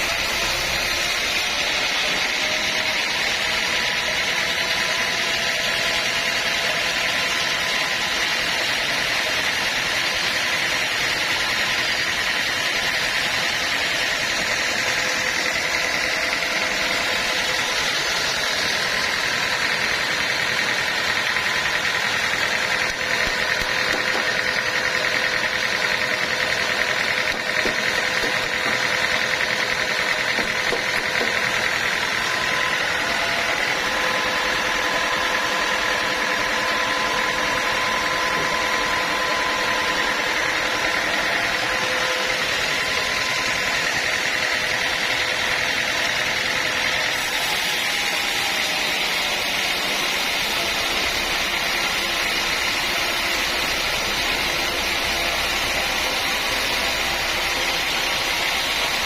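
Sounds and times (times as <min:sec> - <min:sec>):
sawmill machinery with high whine: 0:00.0 - 0:59.0.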